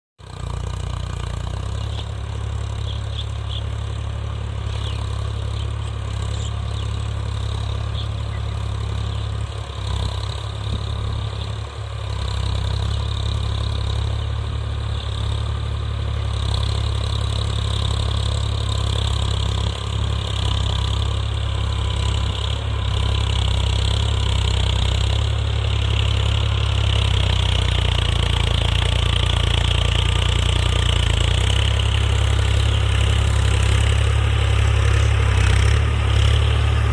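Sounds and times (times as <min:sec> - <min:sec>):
tractor diesel engine droning: 0:00.2 - 0:36.9.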